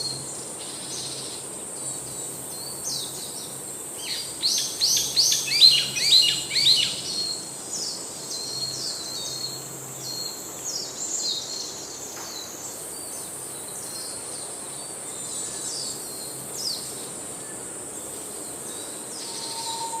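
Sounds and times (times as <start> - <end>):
high insect hum: 0.0 - 20.0.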